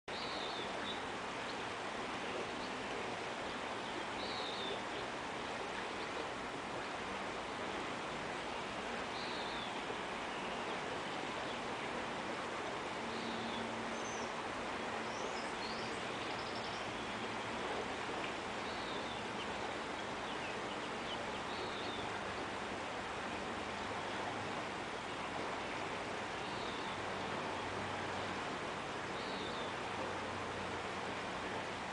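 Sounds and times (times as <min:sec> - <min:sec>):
river running over stones: 0:00.1 - 0:31.9.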